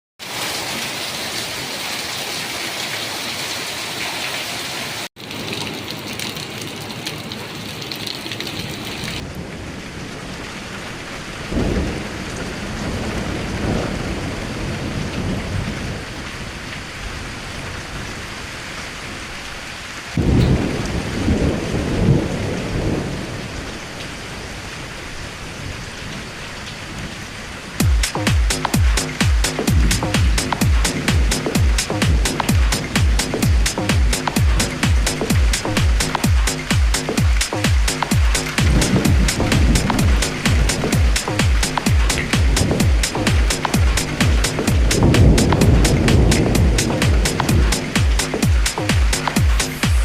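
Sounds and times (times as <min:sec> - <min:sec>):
steady rain falling: 0:00.2 - 0:50.0
low thunder rolls: 0:09.2 - 0:28.0, 0:28.7 - 0:50.0.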